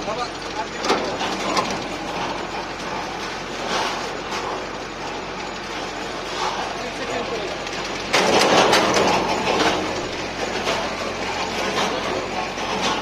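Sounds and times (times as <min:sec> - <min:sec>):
concrete mixer rattling and grinding: 0:00.0 - 0:13.0.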